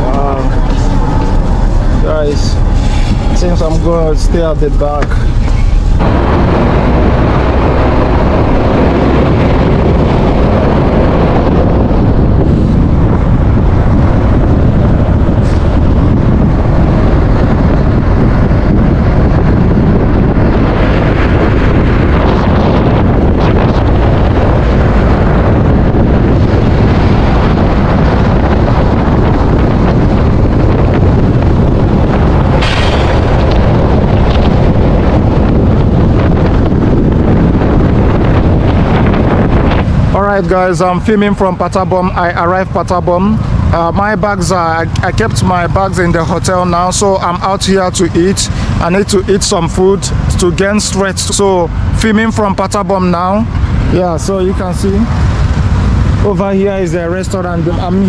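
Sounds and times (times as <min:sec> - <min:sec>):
bus engine and road rumble: 0:00.0 - 0:58.0
wind buffeting microphone: 0:00.0 - 0:58.0.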